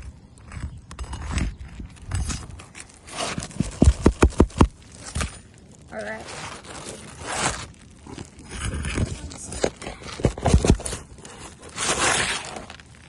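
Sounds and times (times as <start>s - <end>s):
roof shingles scraping and tearing: 0.0s - 13.0s.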